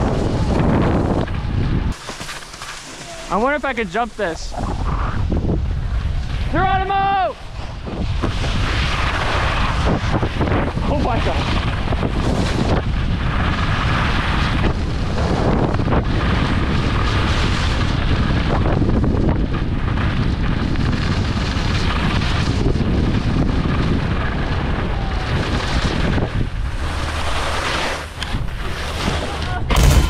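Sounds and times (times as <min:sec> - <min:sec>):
wind buffeting microphone: 0:00.0 - 0:02.0, 0:04.0 - 0:30.0
skis sliding over snow: 0:00.0 - 0:29.9.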